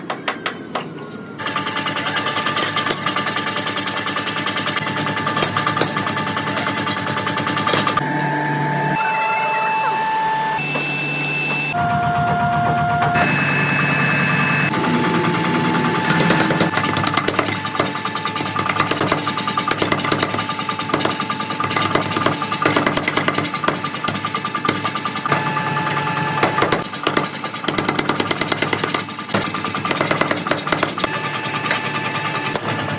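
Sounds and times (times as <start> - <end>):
machine whine: 0.7 - 26.9, 30.9 - 32.9
power hammer striking steel: 1.4 - 8.0, 12.2 - 32.9.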